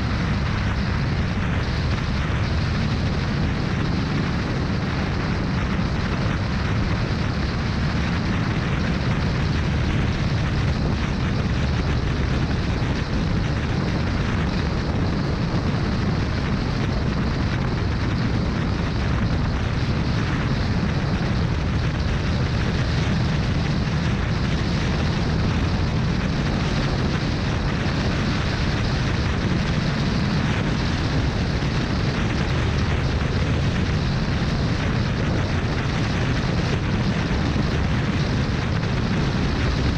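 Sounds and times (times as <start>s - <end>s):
motorcycle engine and road rumble: 0.0s - 39.9s
wind buffeting microphone: 0.0s - 39.9s.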